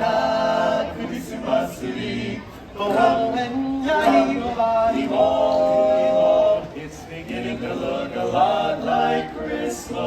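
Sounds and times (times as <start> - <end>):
group singing in harmony: 0.0 - 10.0.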